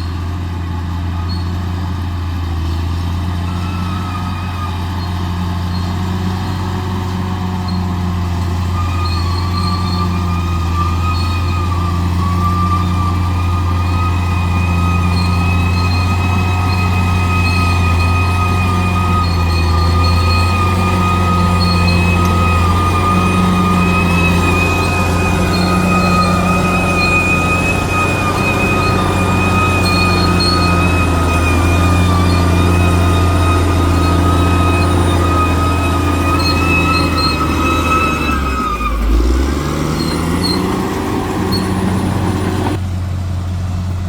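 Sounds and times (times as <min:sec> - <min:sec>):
bulldozer diesel engine: 0:00.0 - 0:44.0.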